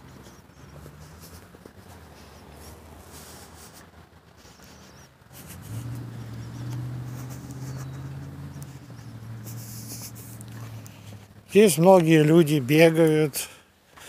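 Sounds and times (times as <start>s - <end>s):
low motor hum: 0.0s - 11.8s.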